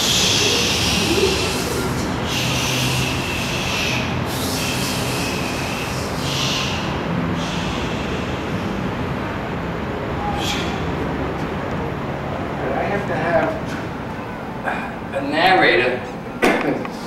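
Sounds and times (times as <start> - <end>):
steady rumbling: 0.0 - 16.4.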